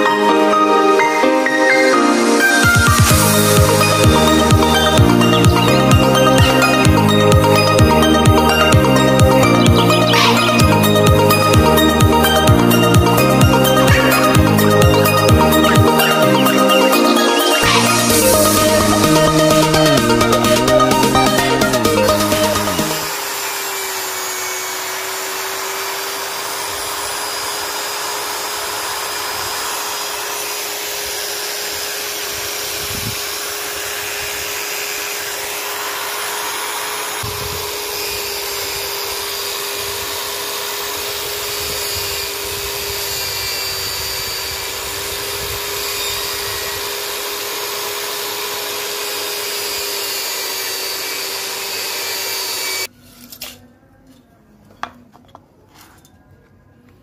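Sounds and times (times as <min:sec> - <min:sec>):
electric drill whine: 0:00.0 - 0:52.9.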